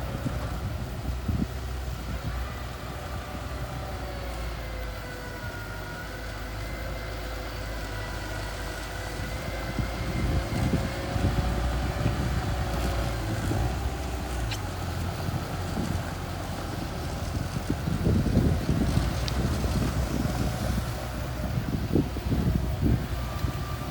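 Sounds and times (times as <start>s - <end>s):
bulldozer engine running: 0.0s - 23.9s
wind buffeting microphone: 0.0s - 23.9s.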